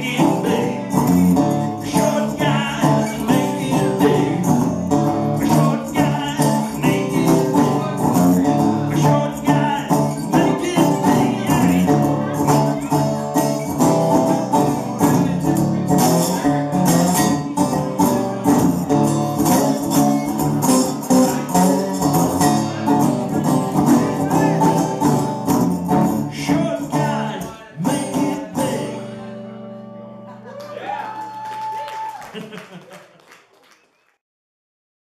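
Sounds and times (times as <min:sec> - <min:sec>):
guitar strummed hard: 0:00.0 - 0:30.4.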